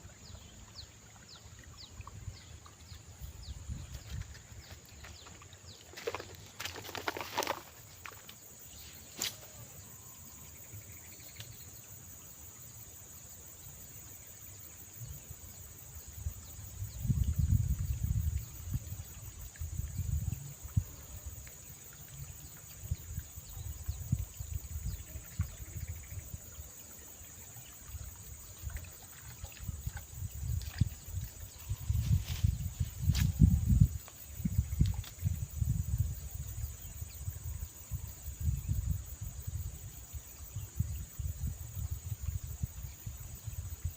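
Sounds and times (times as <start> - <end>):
insects chirring: 0.0 - 43.9.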